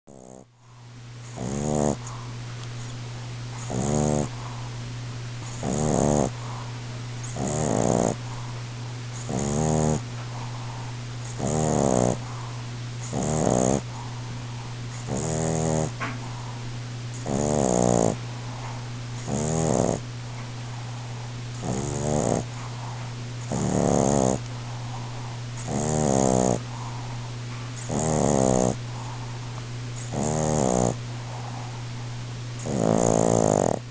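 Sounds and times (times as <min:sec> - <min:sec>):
dog snoring loudly: 0:00.1 - 0:04.7, 0:05.4 - 0:20.0, 0:20.7 - 0:27.2, 0:27.8 - 0:29.4, 0:30.0 - 0:31.8, 0:32.6 - 0:33.9
steady low hum: 0:00.1 - 0:33.9.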